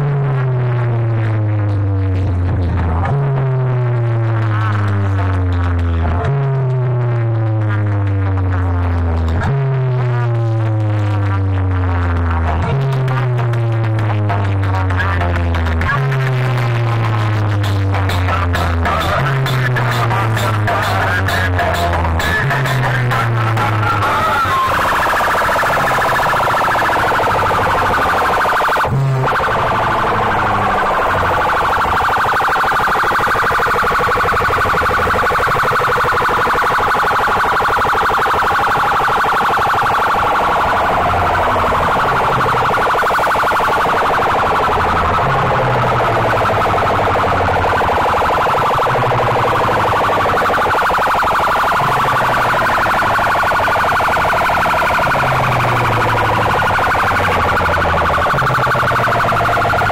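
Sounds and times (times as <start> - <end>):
low bass line: 0.0 - 32.2, 39.6 - 59.9
siren-like electronic wail: 0.0 - 59.9.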